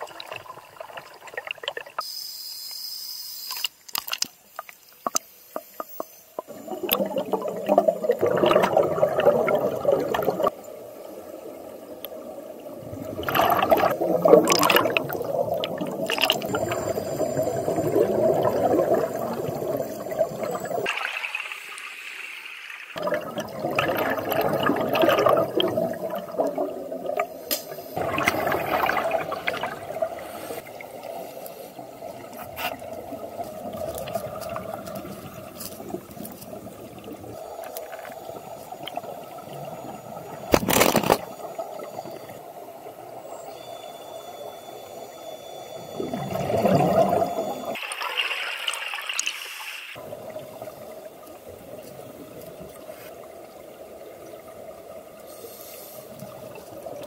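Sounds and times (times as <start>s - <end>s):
underwater regulator bubbles gurgling: 0.0s - 2.0s, 5.0s - 21.3s, 23.0s - 43.2s, 45.6s - 55.2s.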